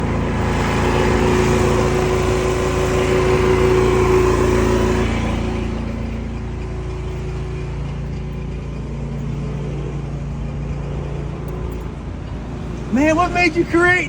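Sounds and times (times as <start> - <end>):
engine droning hum: 0.0 - 14.0.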